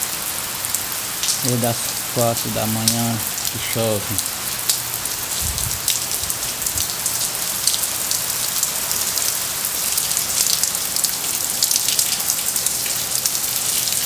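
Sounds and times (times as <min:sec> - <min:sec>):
raindrops tapping: 0:00.0 - 0:14.0
steady rain falling: 0:00.0 - 0:14.0.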